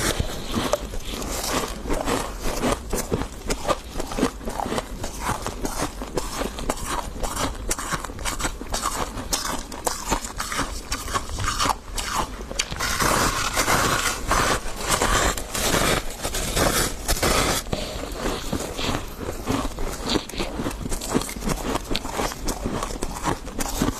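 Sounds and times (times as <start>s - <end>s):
chewing crunchy frost: 0.0s - 23.9s.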